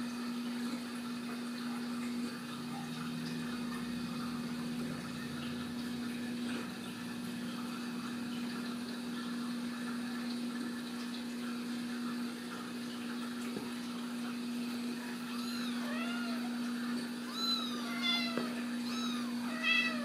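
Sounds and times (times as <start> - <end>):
running water hiss: 0.0 - 20.0
water pump humming: 0.0 - 20.0.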